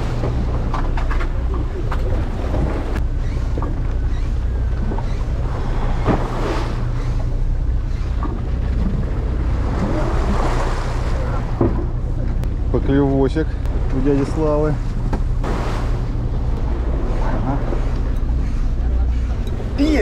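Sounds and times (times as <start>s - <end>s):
boat engine humming: 0.0s - 20.0s
water splashing along hull: 0.0s - 20.0s.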